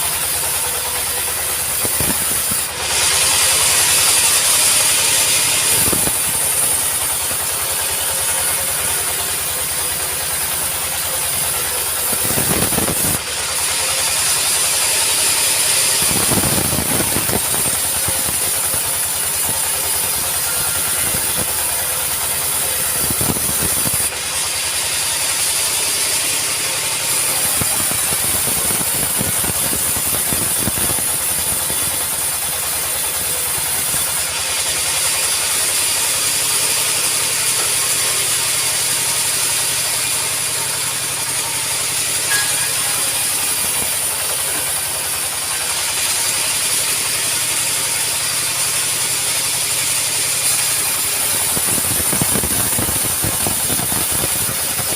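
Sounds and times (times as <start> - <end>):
sawmill machine with high hiss: 0.0 - 54.9.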